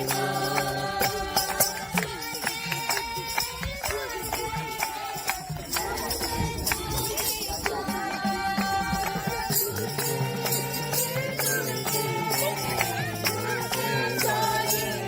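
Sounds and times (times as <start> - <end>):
group devotional singing: 0.0 - 15.0
held accompanying notes: 0.0 - 15.0
jingling hand percussion: 0.0 - 15.0.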